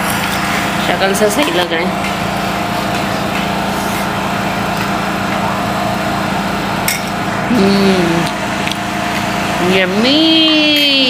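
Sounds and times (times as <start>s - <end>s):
motor hum with high whine: 0.0s - 11.0s.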